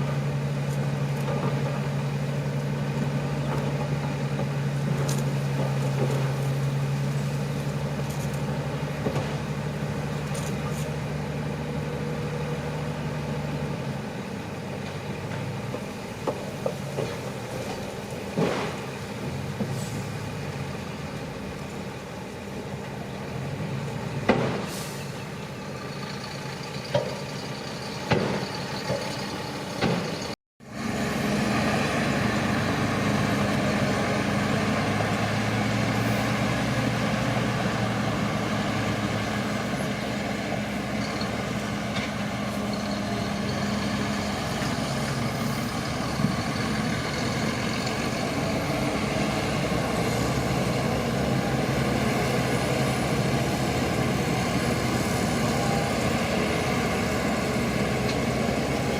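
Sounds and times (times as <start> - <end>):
bulldozer diesel engine running: 0.0 - 58.9.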